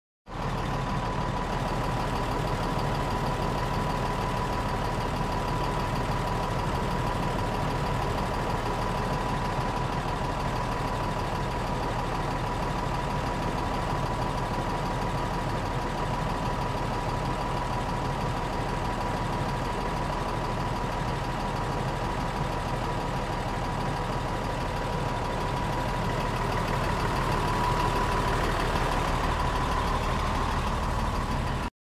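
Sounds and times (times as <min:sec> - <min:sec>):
bus engine running: 0:00.3 - 0:31.7.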